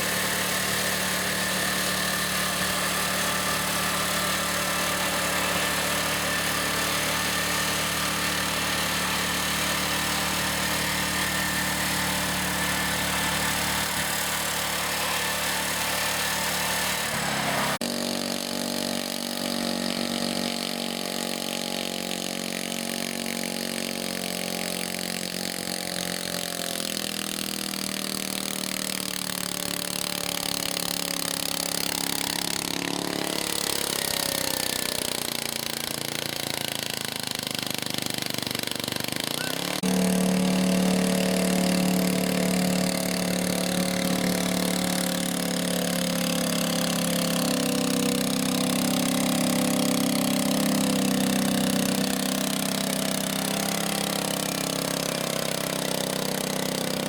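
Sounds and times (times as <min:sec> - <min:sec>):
garden tractor engines running: 0:00.0 - 0:57.0.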